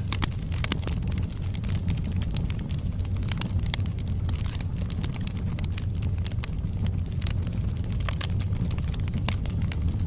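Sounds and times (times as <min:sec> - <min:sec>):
fire rumbling: 0:00.0 - 0:10.0
wood crackling and popping: 0:00.0 - 0:10.0.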